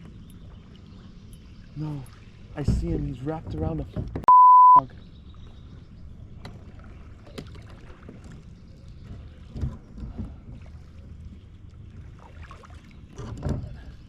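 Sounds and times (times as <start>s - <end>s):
paddle splashes: 0.0s - 4.2s, 4.9s - 14.0s
water and wind rumble: 0.0s - 14.0s.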